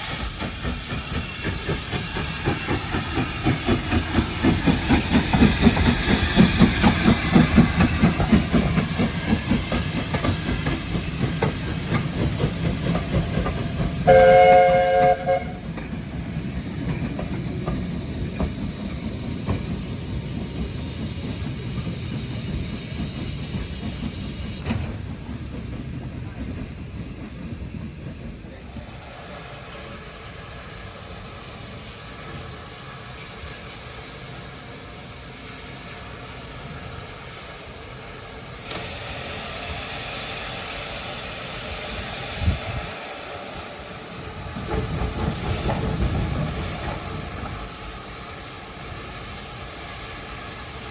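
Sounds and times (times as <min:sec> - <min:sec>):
steam hissing: 0:00.0 - 0:50.9
train rumble: 0:00.0 - 0:50.9.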